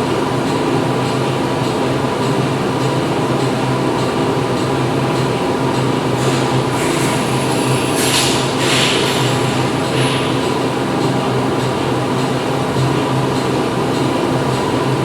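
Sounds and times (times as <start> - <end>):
factory machinery droning hum: 1.2 - 15.0.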